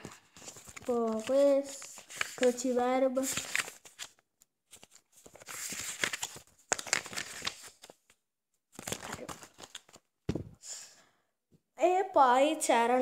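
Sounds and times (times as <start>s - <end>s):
paper rustling and crinkling: 0.0s - 10.5s.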